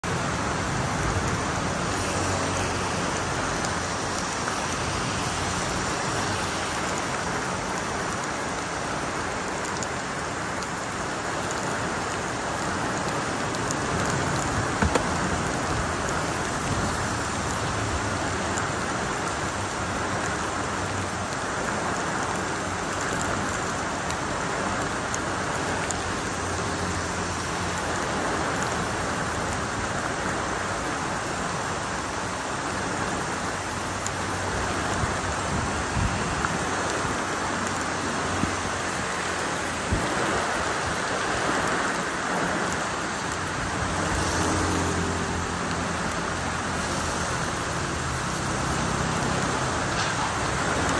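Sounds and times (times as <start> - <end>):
heavy rain on wet road: 0.0 - 50.9.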